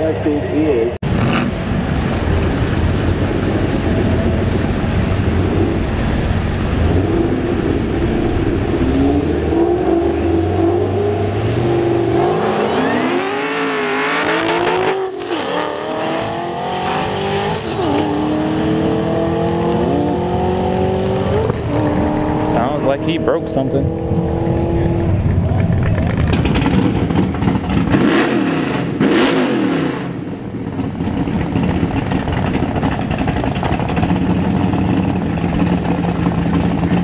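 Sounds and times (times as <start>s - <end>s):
drag car engines rumbling: 0.0s - 37.0s
car accelerating at full throttle: 1.0s - 37.0s.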